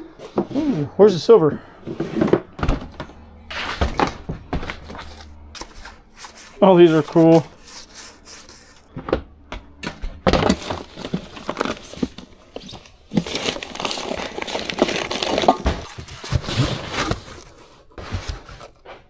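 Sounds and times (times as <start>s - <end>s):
cardboard and paper rustling: 1.8s - 9.0s, 10.2s - 19.0s.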